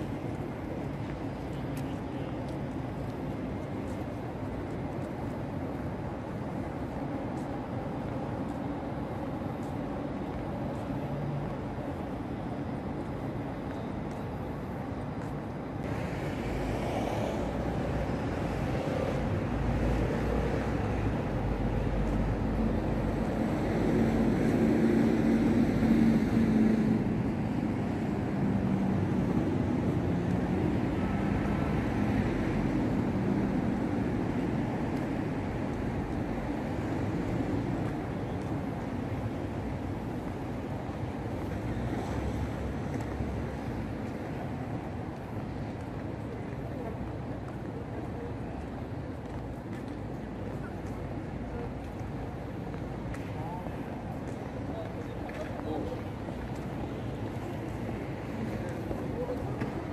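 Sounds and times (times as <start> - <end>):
cars and buses on busy road: 0.0 - 59.9.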